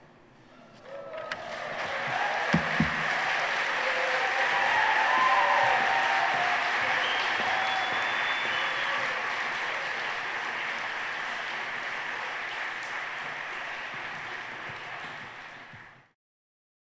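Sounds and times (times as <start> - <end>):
audience applauding: 0.8 - 16.2.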